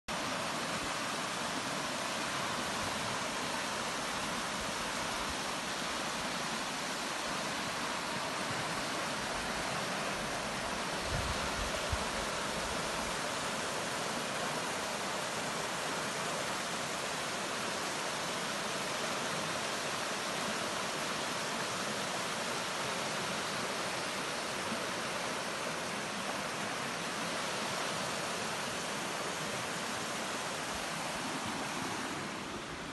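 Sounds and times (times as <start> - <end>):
floodwater rushing: 0.1 - 32.9.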